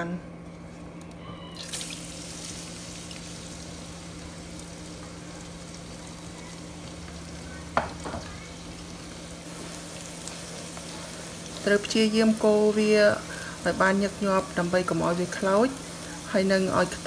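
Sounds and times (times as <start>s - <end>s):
garlic sizzling in hot oil: 1.6s - 17.0s.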